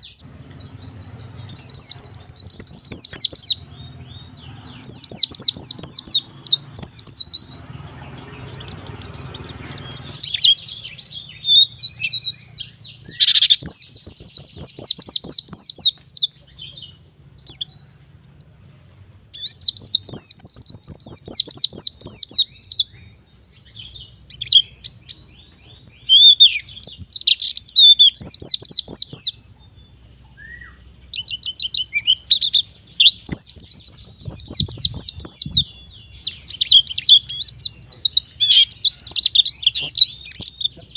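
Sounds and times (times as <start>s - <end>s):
bird singing fast chirps: 0.0s - 40.9s.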